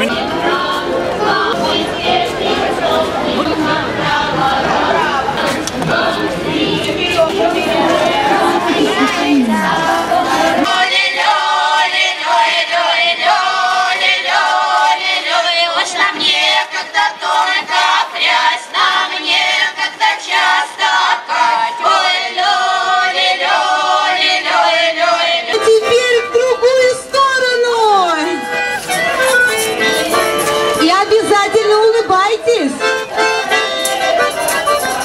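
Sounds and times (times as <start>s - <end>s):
women singing folk song: 0.0s - 28.6s
crowd noise: 0.0s - 35.0s.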